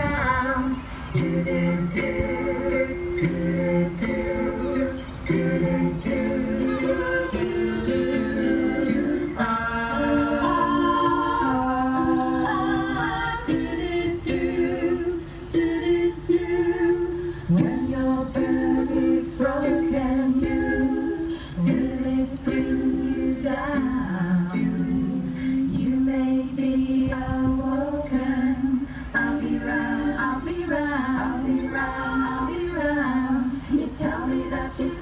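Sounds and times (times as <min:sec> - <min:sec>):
women singing a cappella: 0:00.0 - 0:35.0.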